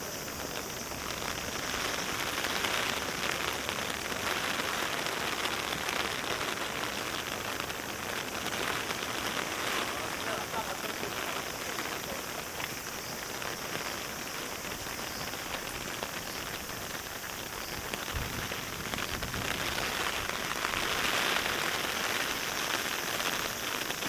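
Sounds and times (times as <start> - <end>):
heavy rain pattering: 0.0 - 24.0.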